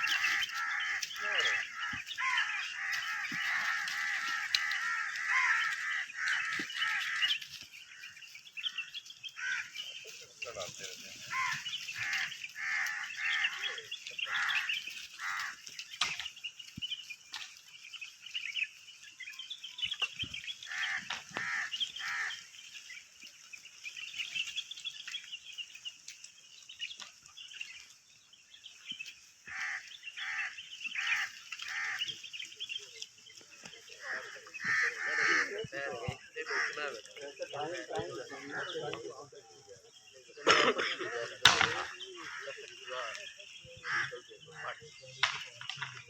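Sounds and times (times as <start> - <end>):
chatter of other birds: 0.0 - 46.0.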